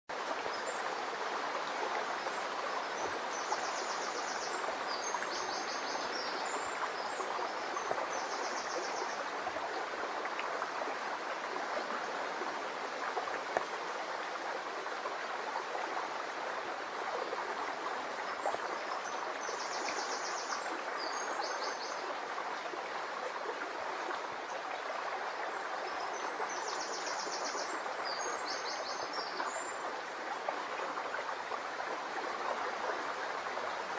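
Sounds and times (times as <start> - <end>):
brook babbling over stones: 0.1 - 33.9.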